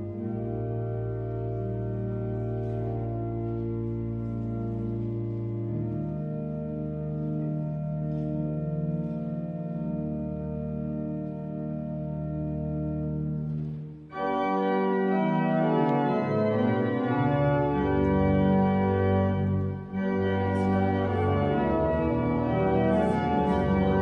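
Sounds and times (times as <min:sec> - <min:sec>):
church organ chords: 0:00.0 - 0:24.0.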